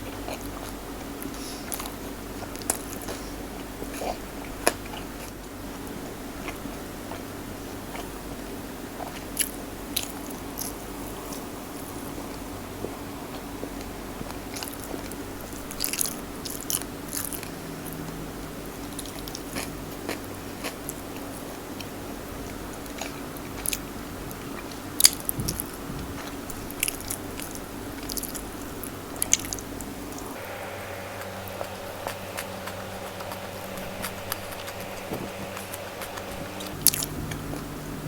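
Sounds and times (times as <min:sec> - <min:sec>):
chewing with crisp crunches: 0:00.0 - 0:38.0.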